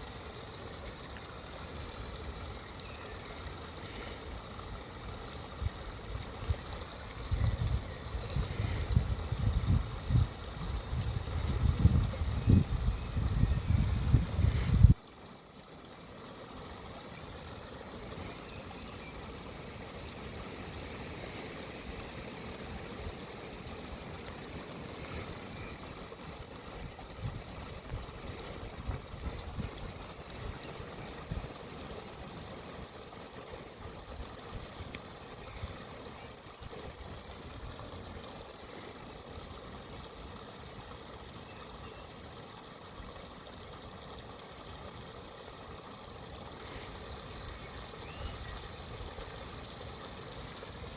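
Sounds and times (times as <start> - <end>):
stream flowing: 0.0 - 50.9.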